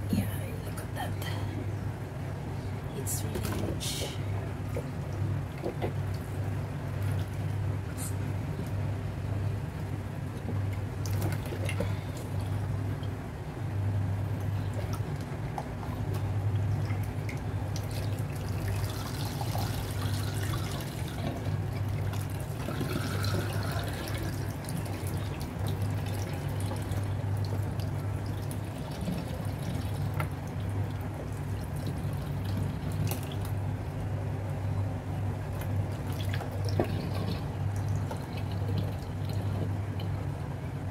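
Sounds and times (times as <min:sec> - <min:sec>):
steady low hum: 0:00.0 - 0:40.9
water sloshing and dripping: 0:03.0 - 0:40.6.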